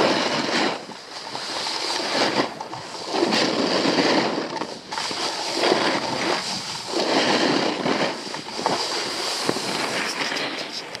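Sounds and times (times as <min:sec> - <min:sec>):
skis hissing over snow: 0:00.0 - 0:10.9
wind on microphone: 0:00.0 - 0:11.0.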